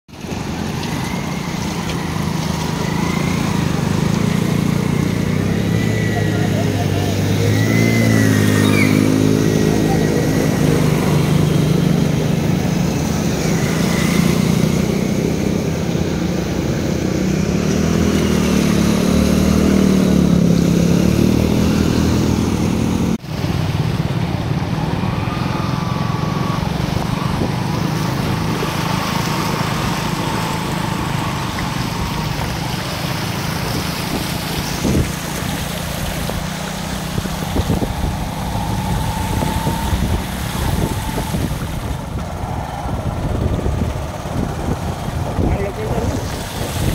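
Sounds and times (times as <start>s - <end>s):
motorcycle engines revving: 0.1s - 46.9s
water splashing around wheels: 0.1s - 46.9s.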